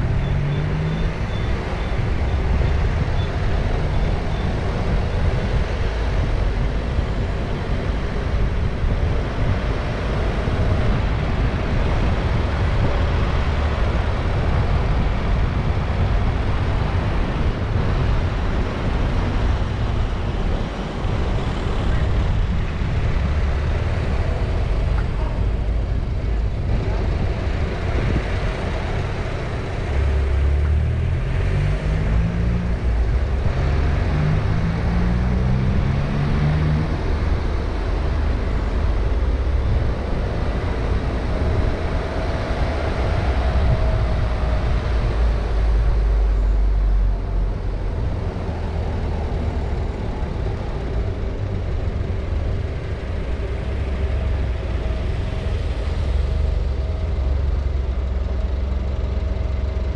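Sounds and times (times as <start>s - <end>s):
car engine accelerating: 9.4s - 59.9s.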